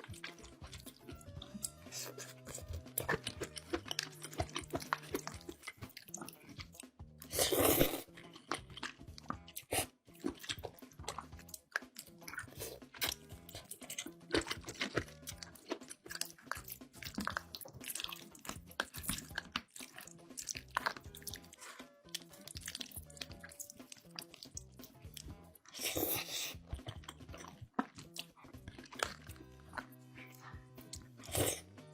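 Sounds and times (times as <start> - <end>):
background music with steady beat: 0.0 - 31.9
chewing and crunching food: 0.0 - 31.9.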